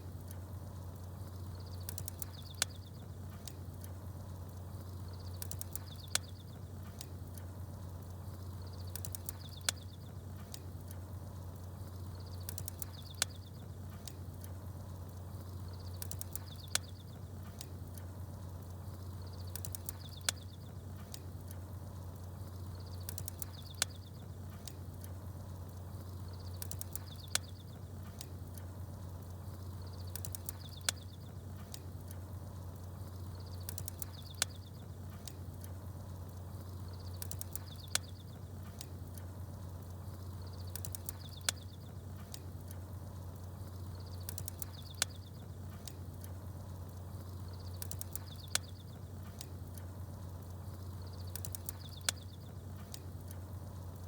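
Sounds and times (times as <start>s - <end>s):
campfire crackling: 0.0s - 54.0s
fire popping: 0.0s - 54.0s
steady low hum: 0.0s - 54.0s
small birds twittering: 0.3s - 54.0s.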